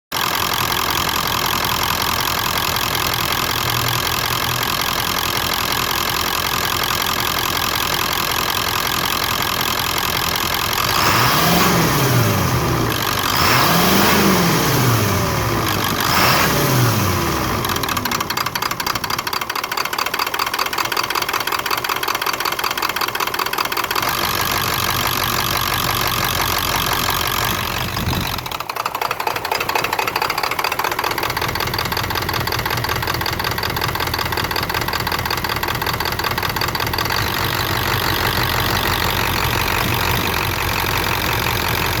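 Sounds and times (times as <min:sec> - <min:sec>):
diesel engine clattering: 0:00.2 - 0:42.0.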